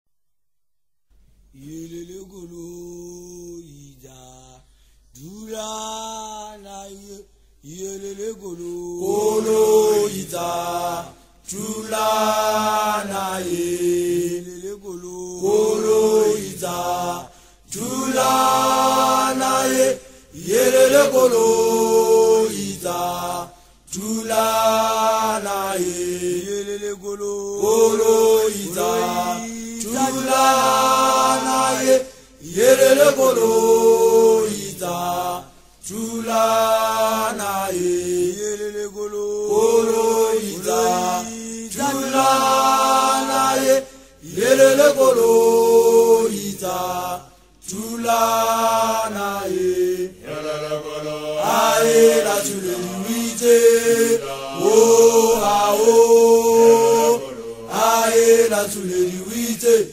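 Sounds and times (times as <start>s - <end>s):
voices chanting: 7.8s - 59.9s.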